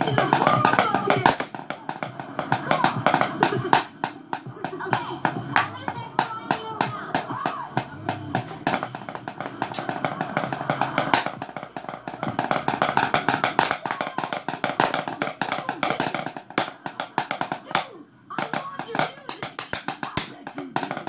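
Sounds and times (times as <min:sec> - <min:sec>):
drumsticks striking hard surface: 0:00.0 - 0:21.0.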